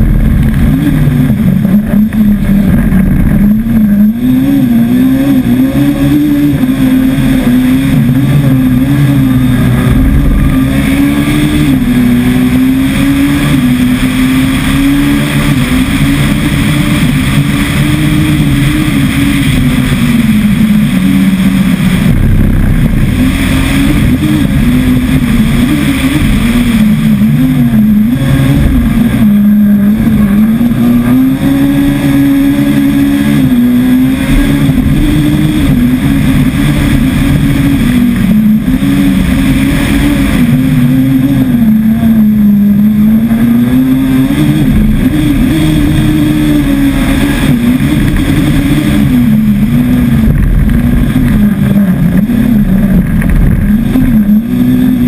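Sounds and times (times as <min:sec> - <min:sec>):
car engine revving hard: 0:00.0 - 0:55.0
road and wind noise: 0:00.0 - 0:55.0.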